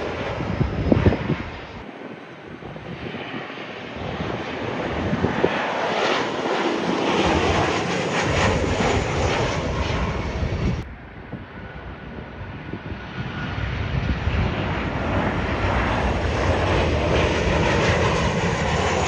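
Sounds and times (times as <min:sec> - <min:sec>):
jet airliner flying overhead: 0:00.0 - 0:19.0.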